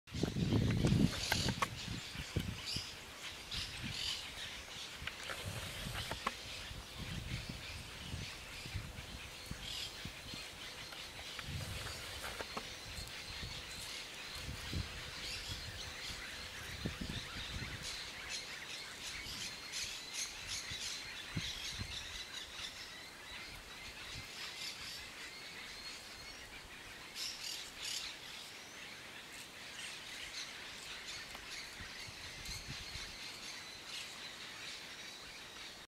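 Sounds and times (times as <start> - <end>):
birds chirping: 0.1 - 35.9.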